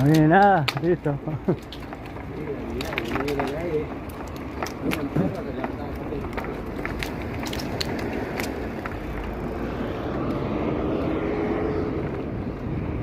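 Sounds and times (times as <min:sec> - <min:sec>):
street traffic: 0:00.0 - 0:13.0
wind: 0:00.0 - 0:13.0
motor vehicle engine: 0:00.8 - 0:13.0.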